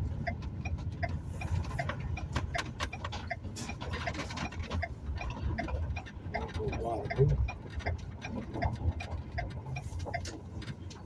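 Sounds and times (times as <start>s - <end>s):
engine and road rumble: 0.0s - 11.0s
turn signal clicking: 0.0s - 11.0s.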